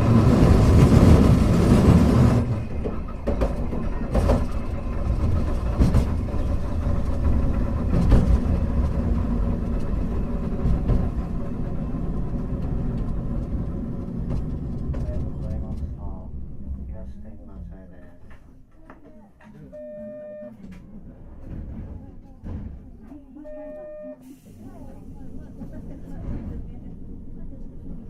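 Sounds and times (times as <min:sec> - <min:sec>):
tram wheels and motors rumbling: 0:00.0 - 0:28.0.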